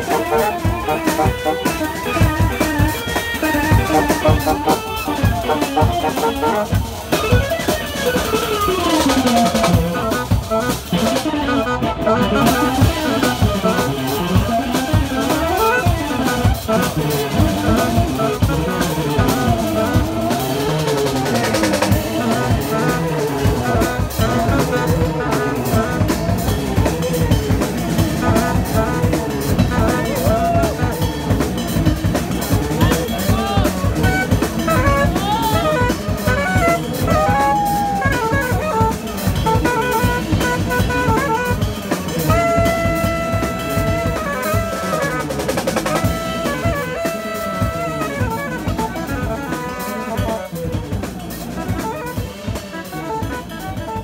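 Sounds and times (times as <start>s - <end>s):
busy drum beat: 0.0s - 54.0s
jazz rock trio playing: 0.0s - 54.0s
melodic fast runs: 0.0s - 54.0s.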